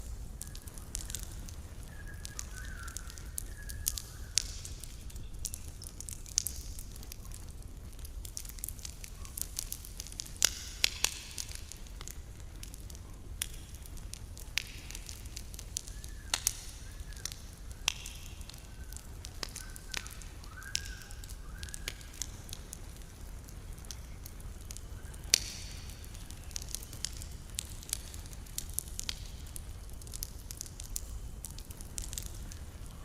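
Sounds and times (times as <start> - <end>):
campfire crackling and popping: 0.0 - 33.0
fire hissing: 0.0 - 33.0.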